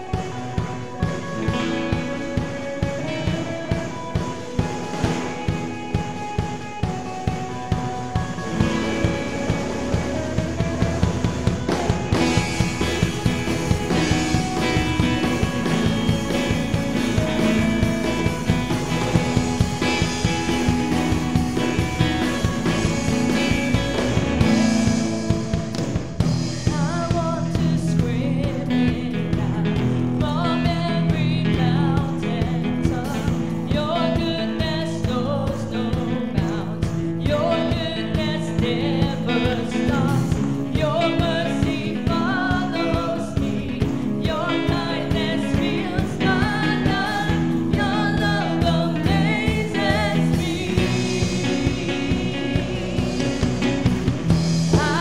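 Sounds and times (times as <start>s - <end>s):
bass: 0.0s - 55.0s
drum kit steady beat: 0.0s - 55.0s
guitars: 0.0s - 55.0s
singers leading melody: 0.0s - 55.0s.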